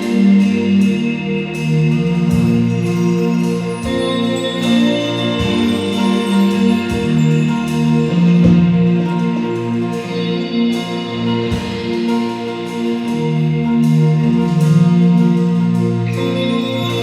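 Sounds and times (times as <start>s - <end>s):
band playing instrumental music: 0.0s - 17.0s.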